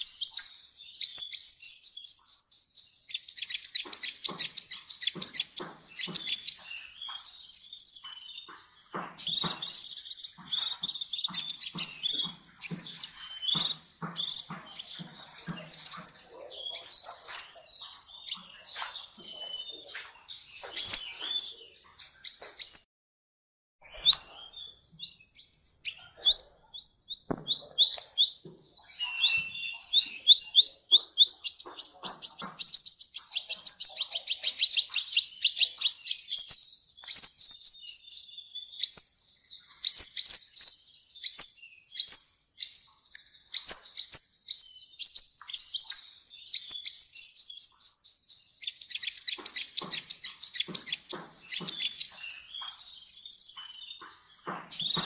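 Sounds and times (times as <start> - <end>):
sunbird singing fast trills: 0.0 - 22.8, 23.8 - 55.0.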